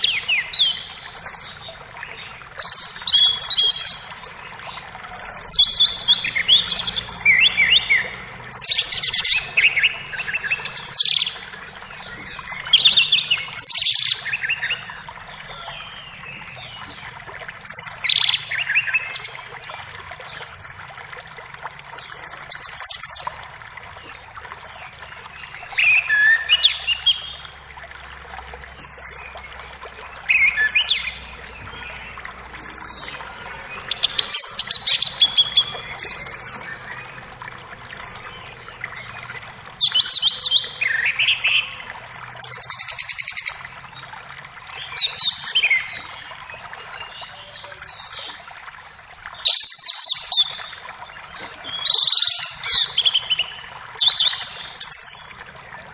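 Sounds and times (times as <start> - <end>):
birds singing: 0.0 - 21.2, 21.8 - 55.9
faint creek running: 0.0 - 55.9.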